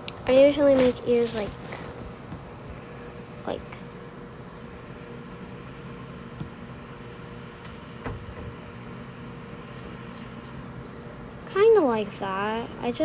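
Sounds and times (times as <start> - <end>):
household background hum: 0.0 - 13.0.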